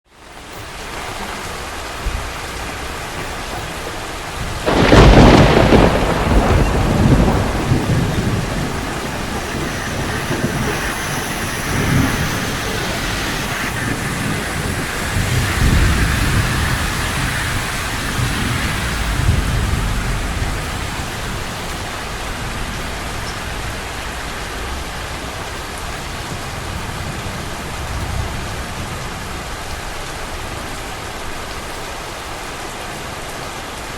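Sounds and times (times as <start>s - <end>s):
rain hissing on street: 0.1s - 33.9s
thunder clap rumbling: 2.0s - 30.6s.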